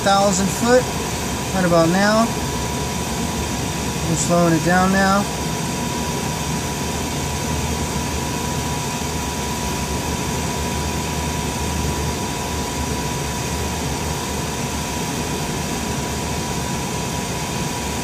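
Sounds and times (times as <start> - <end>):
constant high whine: 0.0 - 18.0
machinery hum and hiss: 0.0 - 18.0.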